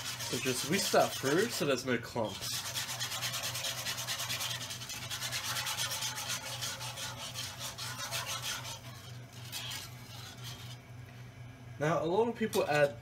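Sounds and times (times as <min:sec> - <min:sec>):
whisk scraping a frying pan: 0:00.0 - 0:11.0
steady low hum: 0:00.0 - 0:13.0.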